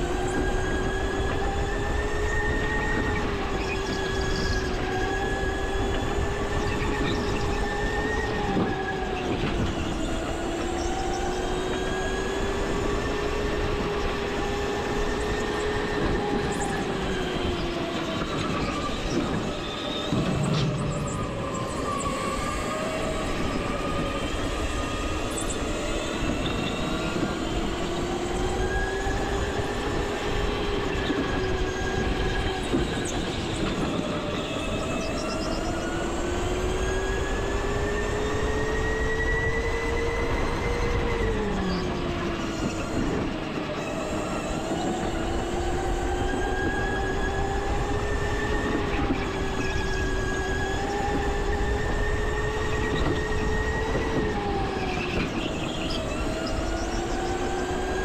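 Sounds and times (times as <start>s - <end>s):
go-kart motor: 0.0s - 58.0s.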